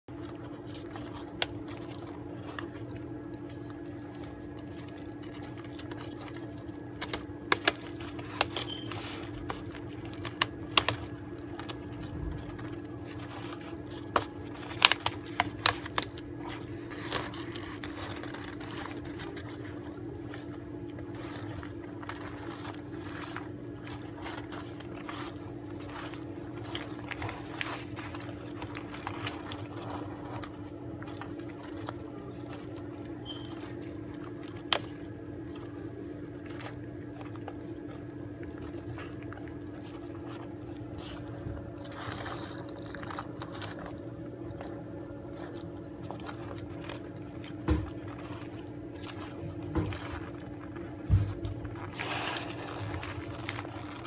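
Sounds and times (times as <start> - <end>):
steady low hum: 0.0 - 54.0
tortoises crunching kale leaves: 0.0 - 54.0.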